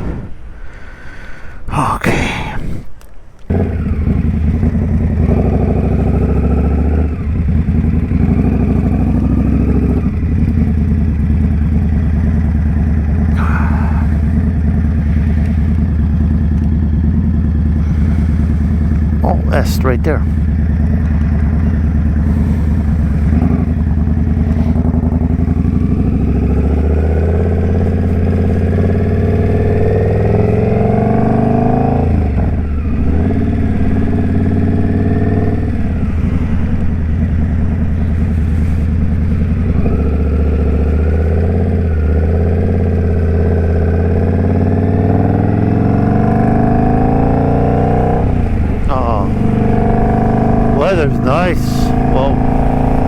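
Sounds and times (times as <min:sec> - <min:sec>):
motorcycle engine accelerating: 0:00.0 - 0:00.5, 0:03.4 - 0:53.0.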